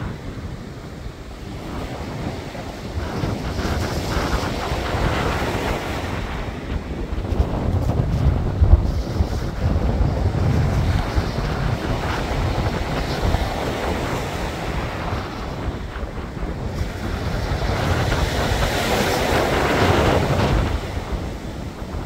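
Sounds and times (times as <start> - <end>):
waves washing over pebble beach: 0.0 - 22.0
wind buffeting microphone: 0.0 - 22.0.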